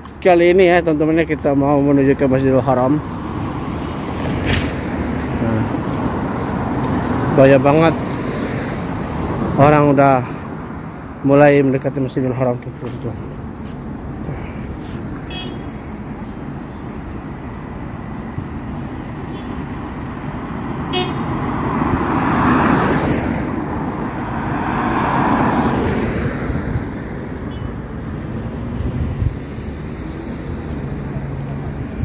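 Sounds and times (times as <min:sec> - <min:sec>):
cars passing close by: 0:00.0 - 0:32.0
street traffic: 0:00.0 - 0:32.0.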